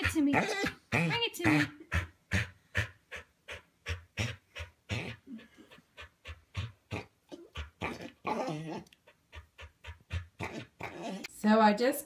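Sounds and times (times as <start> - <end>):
dog panting: 0.0 - 11.3.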